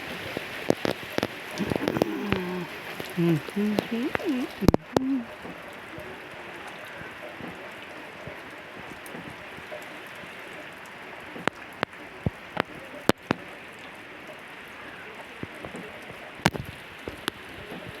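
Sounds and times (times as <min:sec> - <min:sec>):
steady rainfall hissing: 0:00.0 - 0:18.0.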